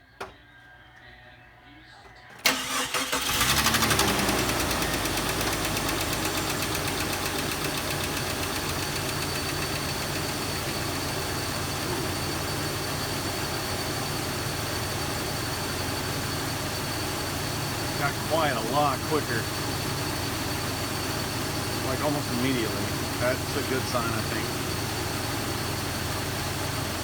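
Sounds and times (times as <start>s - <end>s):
car engine idling: 2.5s - 27.0s
fast light engine ticking: 2.7s - 27.0s.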